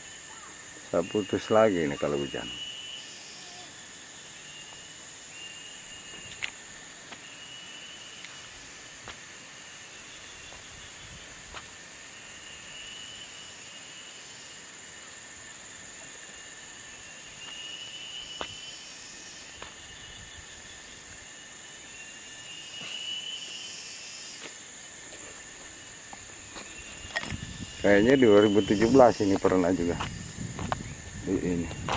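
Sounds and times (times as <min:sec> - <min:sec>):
insects shrilling: 0:00.0 - 0:31.9
wavering insect call: 0:00.0 - 0:31.9.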